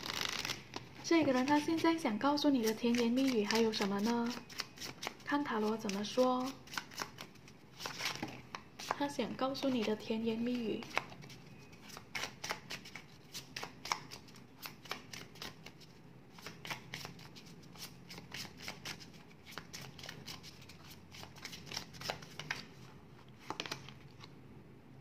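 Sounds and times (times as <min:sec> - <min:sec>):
cards shuffling: 0:00.0 - 0:01.9, 0:02.6 - 0:09.0, 0:10.8 - 0:22.8, 0:23.4 - 0:24.3.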